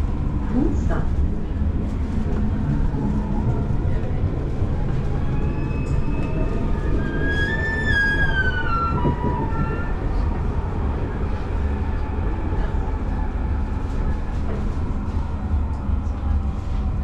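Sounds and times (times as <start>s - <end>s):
tram pitched whine: 0.0s - 17.0s
tram running rumble: 0.0s - 17.0s.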